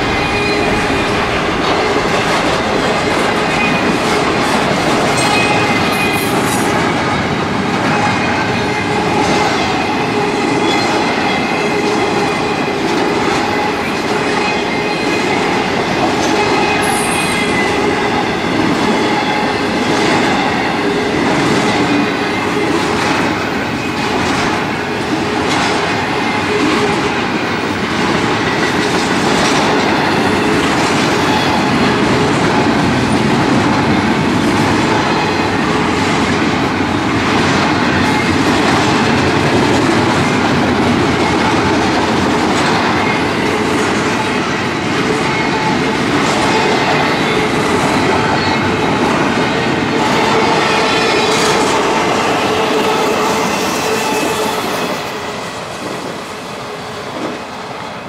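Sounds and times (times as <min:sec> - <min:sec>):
wheels squealing on rails: 0:00.0 - 0:37.0, 0:37.6 - 0:57.4.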